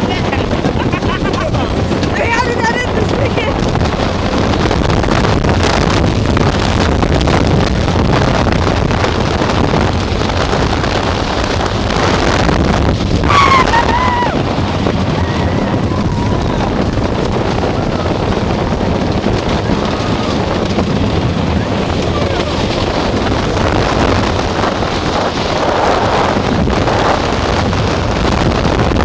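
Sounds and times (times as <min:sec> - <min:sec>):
roller coaster rattling on wooden track: 0:00.0 - 0:29.0
wind rushing over microphone: 0:00.0 - 0:29.0.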